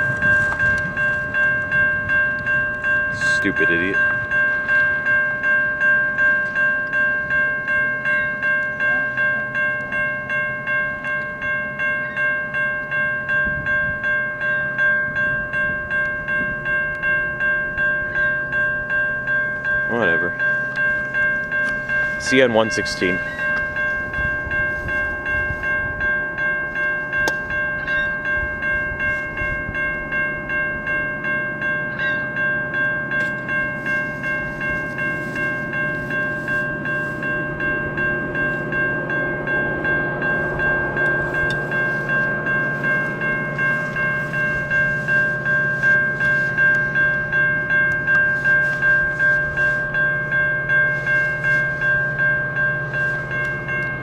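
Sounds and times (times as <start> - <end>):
diesel freight train rumbling: 0.0 - 54.0
level crossing bell ringing: 0.0 - 54.0.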